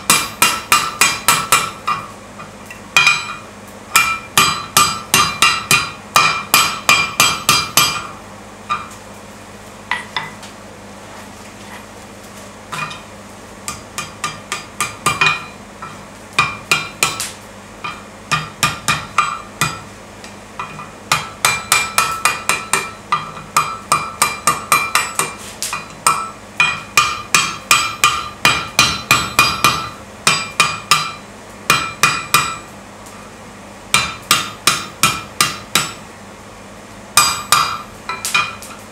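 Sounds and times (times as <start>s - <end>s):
hammer striking steel on anvil: 0.0s - 9.0s, 9.9s - 10.4s, 12.7s - 19.9s, 20.6s - 32.7s, 33.9s - 36.0s, 37.2s - 38.9s.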